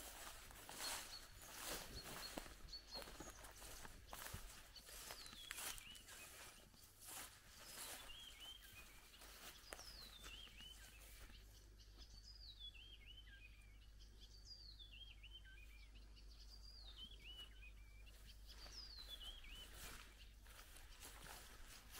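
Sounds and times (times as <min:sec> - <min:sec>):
quiet rural ambience: 0:00.0 - 0:21.9
songbird singing: 0:00.0 - 0:21.9.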